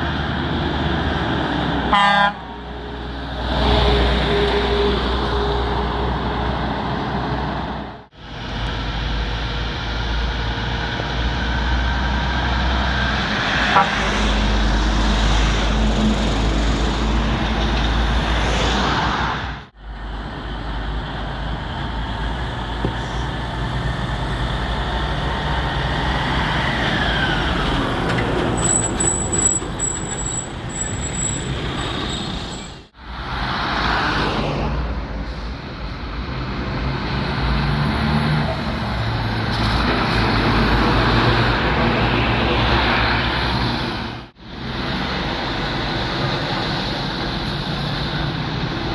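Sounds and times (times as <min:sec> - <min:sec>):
trucks driving past: 0:00.0 - 0:48.9.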